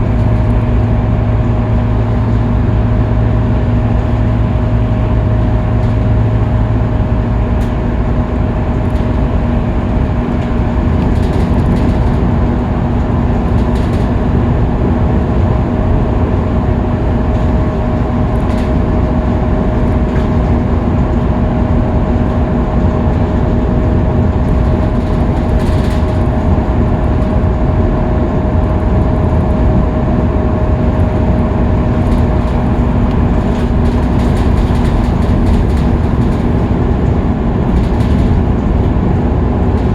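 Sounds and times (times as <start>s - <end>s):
bus engine drone: 0.0s - 39.9s
road and tyre noise: 0.0s - 39.9s.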